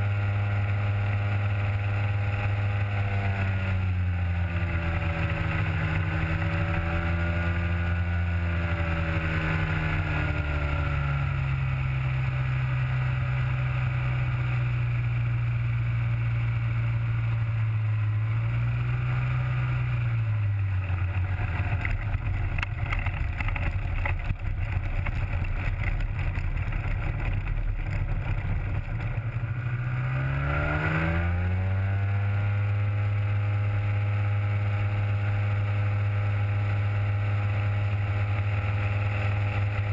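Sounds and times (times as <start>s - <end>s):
two-stroke propeller engine: 0.0s - 39.9s.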